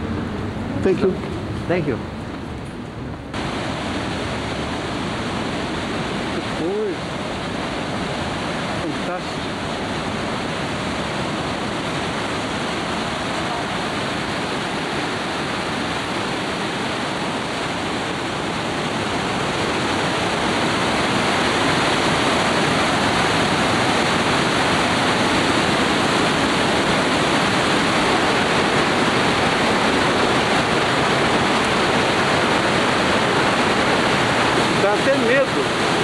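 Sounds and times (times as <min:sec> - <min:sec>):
water rushing through rock gorge: 0:03.3 - 0:36.0.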